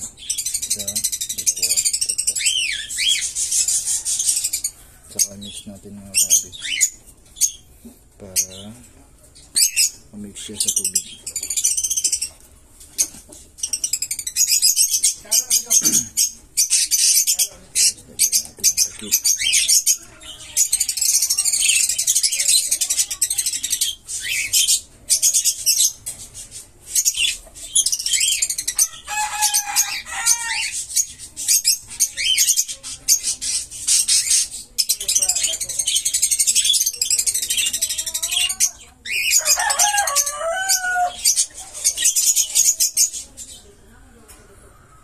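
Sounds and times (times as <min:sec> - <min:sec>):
birds chattering and squawking: 0:00.0 - 0:45.0.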